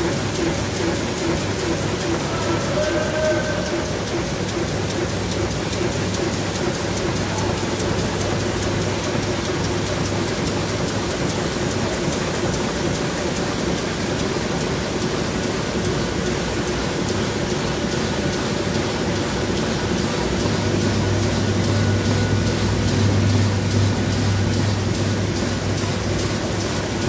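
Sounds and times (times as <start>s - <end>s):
printing press running: 0.0s - 27.0s.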